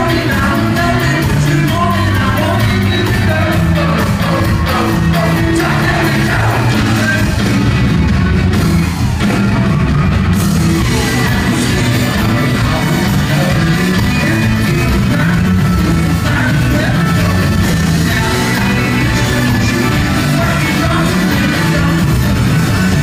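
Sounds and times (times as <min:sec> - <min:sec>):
person singing: 0:00.0 - 0:08.1, 0:10.4 - 0:23.0
live rock band playing: 0:00.0 - 0:23.0.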